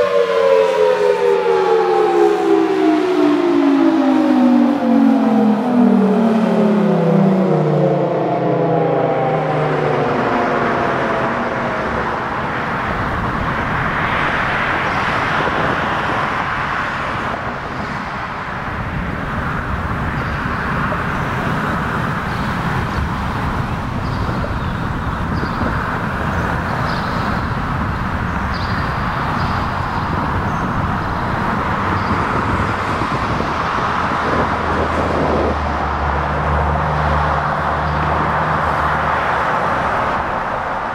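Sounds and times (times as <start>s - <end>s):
warning siren winding down: 0.0s - 17.7s, 20.8s - 40.9s
road traffic: 0.0s - 40.9s
wind buffeting microphone: 0.0s - 40.9s.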